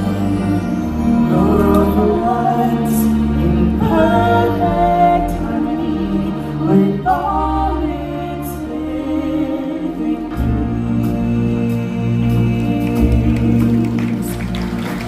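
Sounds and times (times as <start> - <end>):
choir singing sustained chords: 0.0 - 15.0
orchestral backing: 0.0 - 15.0.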